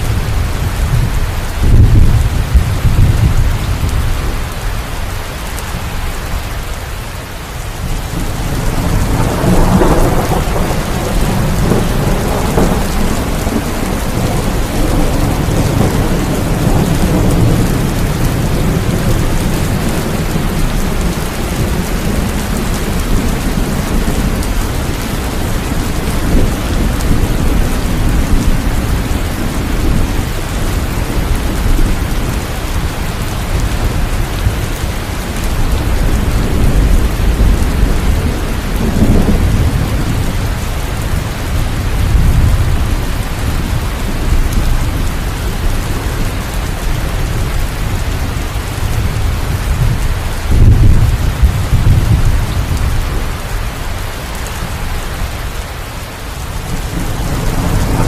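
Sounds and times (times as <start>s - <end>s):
thunder rumbling: 0.0s - 4.7s, 7.8s - 58.0s
heavy rain falling: 0.0s - 58.0s.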